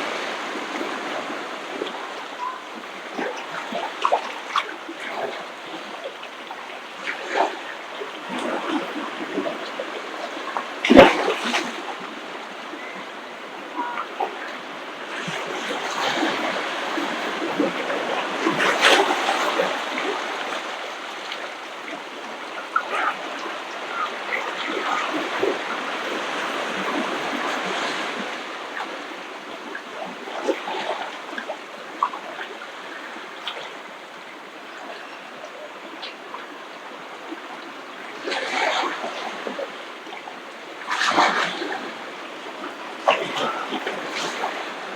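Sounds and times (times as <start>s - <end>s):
ocean waves washing ashore: 0.0s - 44.9s.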